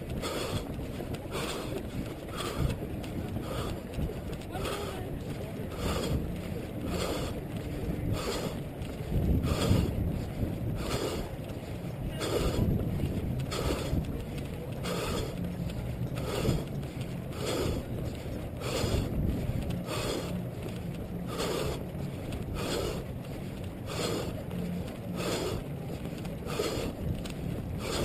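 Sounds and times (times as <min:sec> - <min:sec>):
soft whoosh of running movement: 0:00.0 - 0:28.0
wind rumble on camera: 0:00.0 - 0:28.0.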